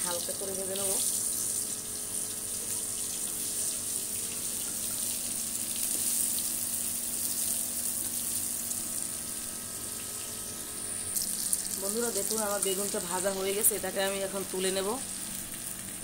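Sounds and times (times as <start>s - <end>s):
vegetables frying in oil: 0.0s - 16.0s.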